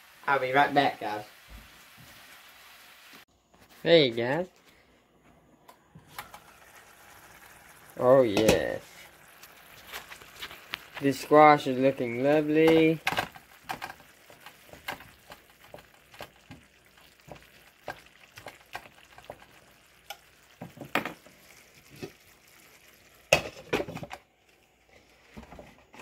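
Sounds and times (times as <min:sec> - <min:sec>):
faint sizzle: 0:00.0 - 0:04.9, 0:05.8 - 0:26.0.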